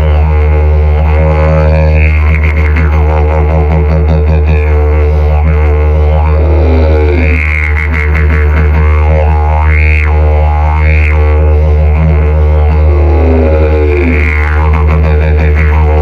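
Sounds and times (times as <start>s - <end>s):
didgeridoo low drone: 0.0s - 16.0s.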